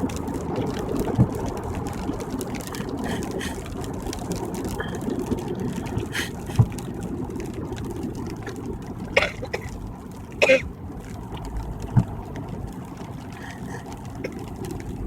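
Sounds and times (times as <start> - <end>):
road and tyre noise: 0.0 - 15.0.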